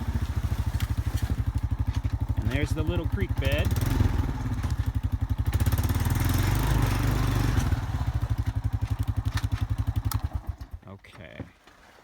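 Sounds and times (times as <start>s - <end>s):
vehicle engine low pulsing: 0.0s - 10.8s.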